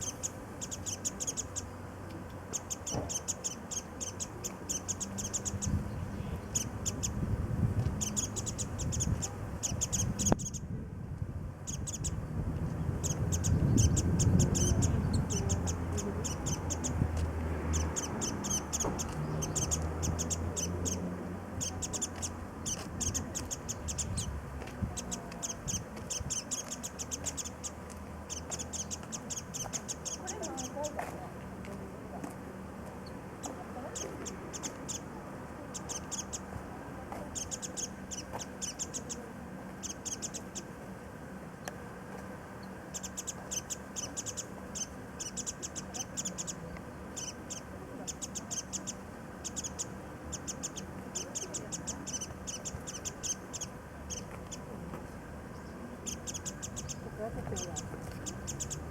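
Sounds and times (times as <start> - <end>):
birds chirping high and thin: 0.0 - 10.8, 11.5 - 30.9, 33.0 - 40.9, 42.5 - 58.9.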